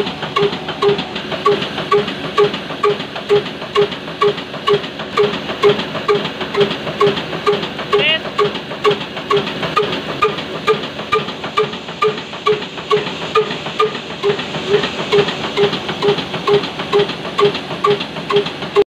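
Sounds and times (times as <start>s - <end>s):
diesel engine running: 0.0s - 18.8s
hiss between exhaust beats: 0.0s - 18.8s.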